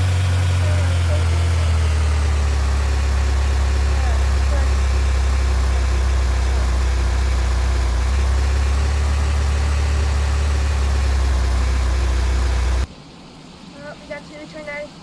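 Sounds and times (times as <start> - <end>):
vehicle engine idling: 0.0 - 12.9.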